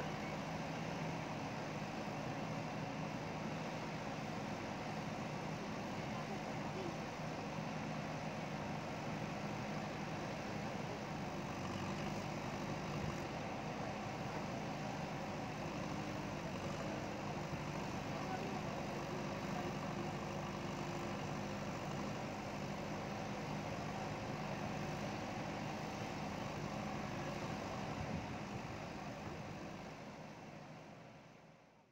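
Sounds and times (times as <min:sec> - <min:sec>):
backhoe diesel engine running: 0:00.0 - 0:31.6.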